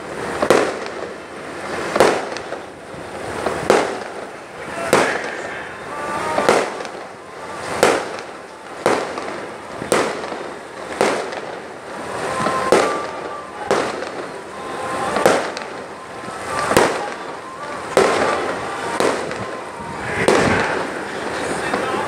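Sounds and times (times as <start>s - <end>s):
rush of noise: 0.0s - 22.0s
sharp bangs: 3.3s - 22.0s.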